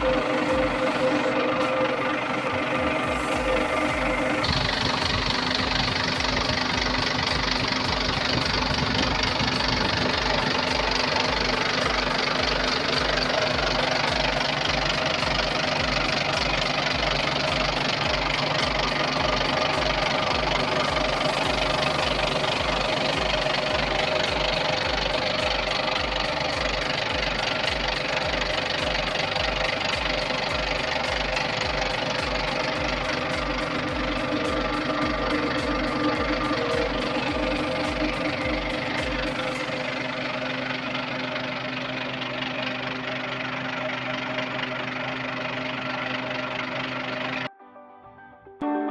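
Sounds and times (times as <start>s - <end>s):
diesel engine idling: 0.0s - 47.5s.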